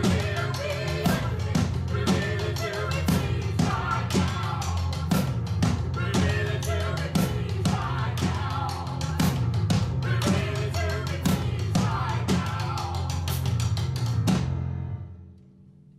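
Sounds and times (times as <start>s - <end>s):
snare drum: 0.0s - 14.6s.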